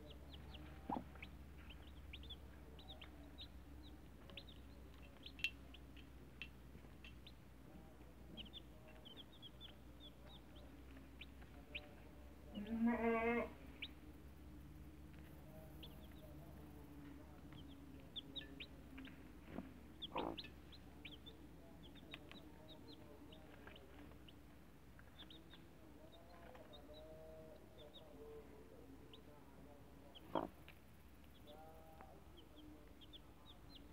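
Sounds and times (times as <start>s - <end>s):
baby chicks peeping: 0.0s - 12.7s, 13.5s - 33.9s.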